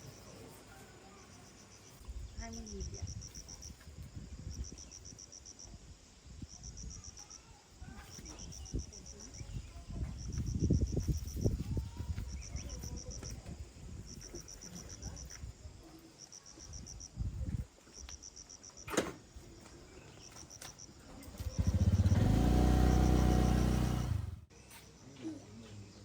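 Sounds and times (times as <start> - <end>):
insects chirping in trills: 0.0 - 23.9.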